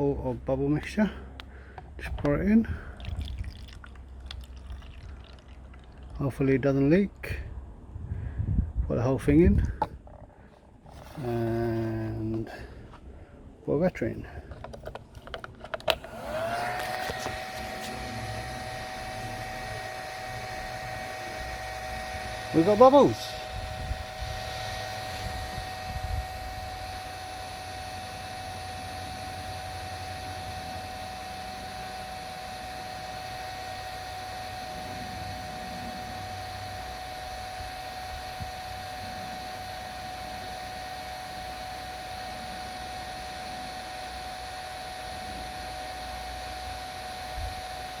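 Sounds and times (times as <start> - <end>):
small fan motor whirring: 1.0 - 6.9, 9.2 - 13.2, 14.3 - 48.0.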